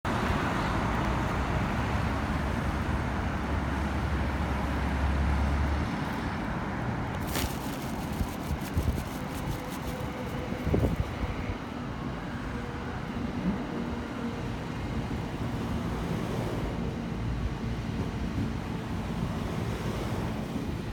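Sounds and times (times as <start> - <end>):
train passing rumble: 0.5 - 20.9.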